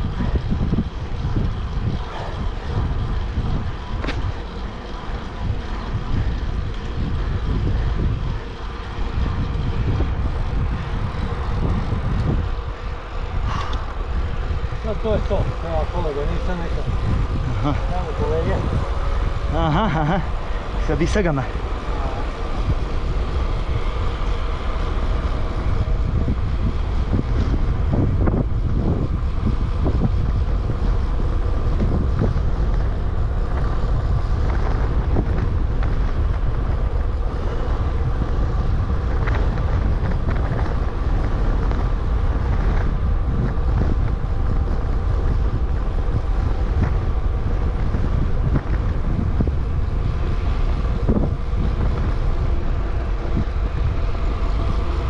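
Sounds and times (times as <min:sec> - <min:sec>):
bicycle tyres rumbling on road: 0:00.0 - 0:55.0
wind buffeting microphone: 0:00.0 - 0:55.0.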